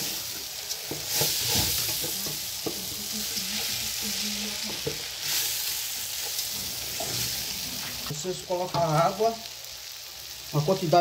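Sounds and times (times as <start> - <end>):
rice sizzling in oil: 0.0 - 11.0.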